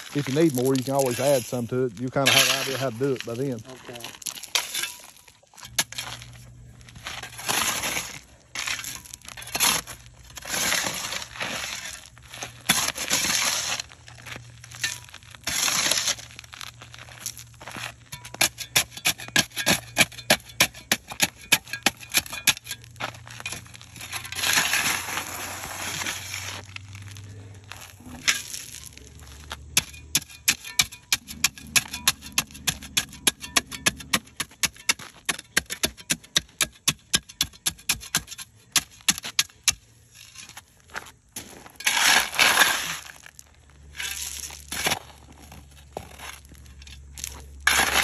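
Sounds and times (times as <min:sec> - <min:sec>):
gritty scrape: 0:00.0 - 0:48.0
hand tool striking asphalt: 0:00.2 - 0:13.9, 0:14.7 - 0:16.4, 0:17.3 - 0:26.6, 0:29.5 - 0:40.6, 0:41.4 - 0:43.3, 0:44.0 - 0:48.0.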